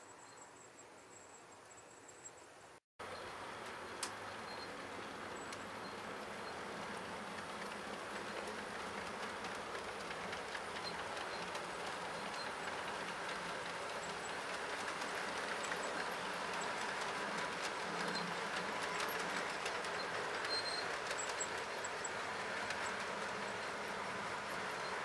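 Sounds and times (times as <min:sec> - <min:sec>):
model train rolling whir: 0:03.0 - 0:25.0.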